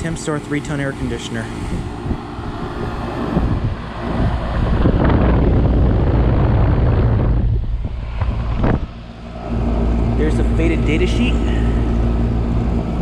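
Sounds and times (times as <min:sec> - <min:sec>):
air conditioner unit humming: 0:00.0 - 0:13.0
condenser fan rushing: 0:00.0 - 0:13.0.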